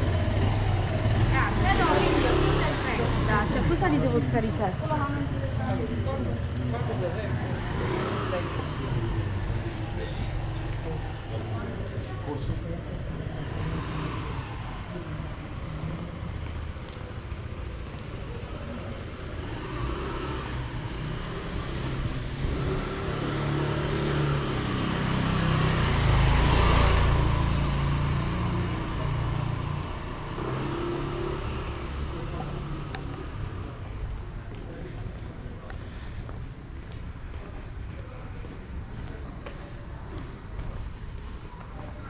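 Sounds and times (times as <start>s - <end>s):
street ambience: 0.0s - 42.0s
vehicle engine rumble passing: 0.0s - 42.0s.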